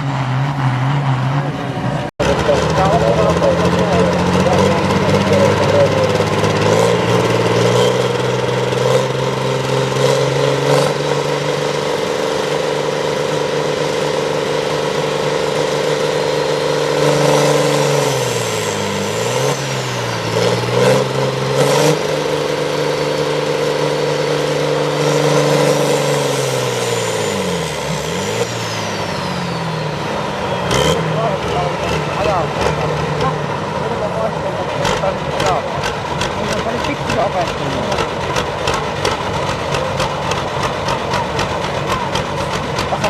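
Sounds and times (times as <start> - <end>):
tractor engine under load: 0.0 - 43.0.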